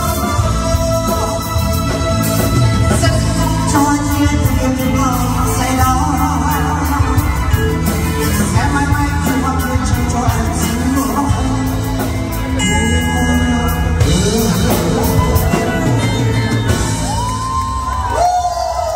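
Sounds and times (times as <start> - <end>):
man singing into a microphone: 0.0 - 17.1
band with drums and keyboard: 0.0 - 18.9.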